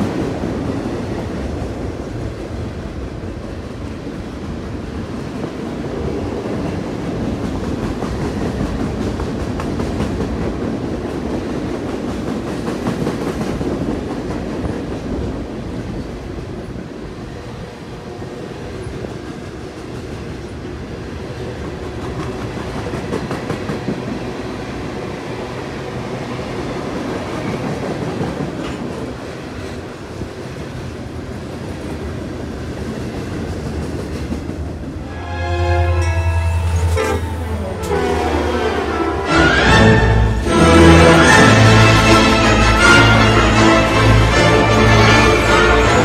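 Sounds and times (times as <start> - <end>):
freight train rolling past: 0.0 - 46.0.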